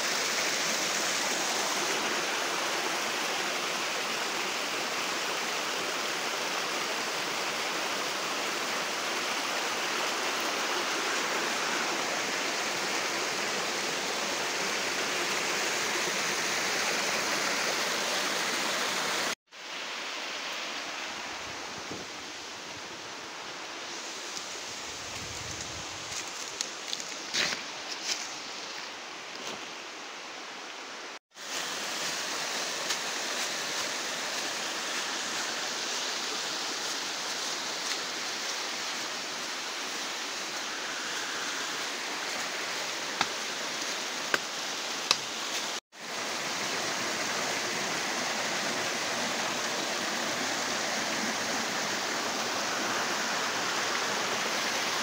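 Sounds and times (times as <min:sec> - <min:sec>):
stream rushing over rock: 0:00.0 - 0:55.0.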